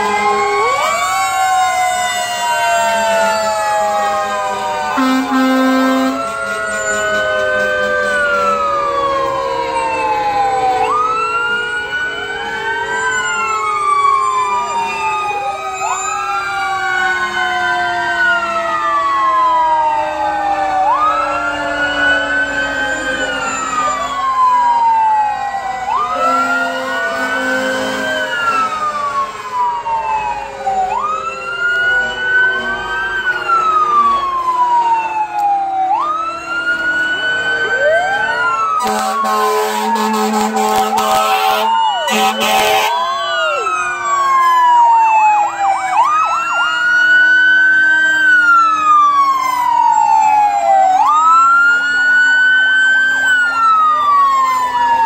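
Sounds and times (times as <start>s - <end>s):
fire truck sirens wailing: 0.0s - 55.0s
low falling siren tone: 0.0s - 55.0s.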